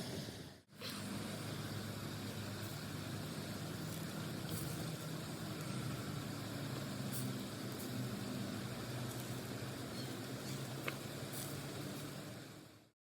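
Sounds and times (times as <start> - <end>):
constant hiss: 0.0 - 13.0
low engine-like rumble: 0.0 - 13.0.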